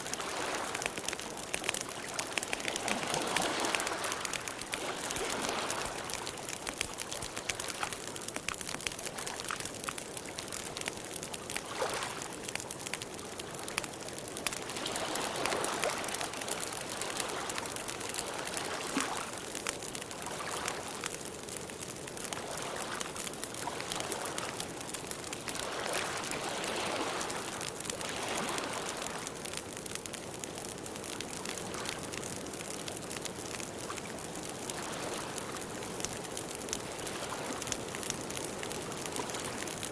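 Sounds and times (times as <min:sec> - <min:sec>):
water trickling in a stream: 0:00.0 - 0:39.9.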